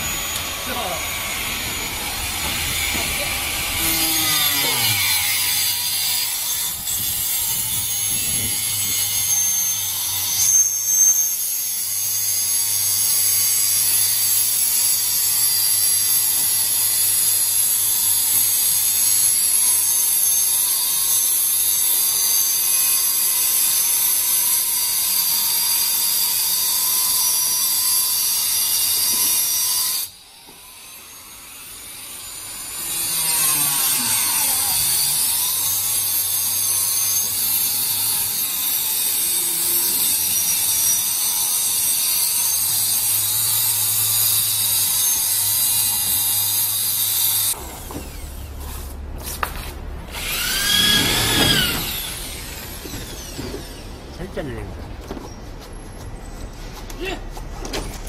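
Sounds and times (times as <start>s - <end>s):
electric drills whining and grinding: 0.0s - 49.0s, 50.0s - 54.5s.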